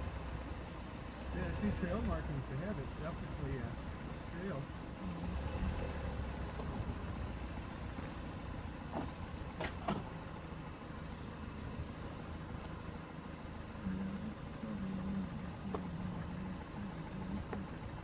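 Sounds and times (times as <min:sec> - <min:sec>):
car engine running at low speed: 0:00.0 - 0:18.0.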